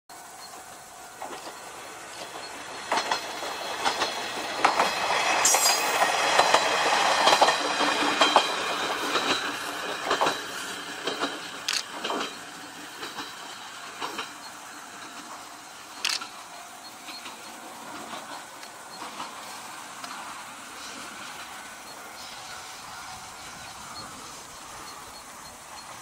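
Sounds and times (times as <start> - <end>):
diesel railcar engine running: 0.1 - 26.0
wheels clacking over rail joints: 0.1 - 26.0.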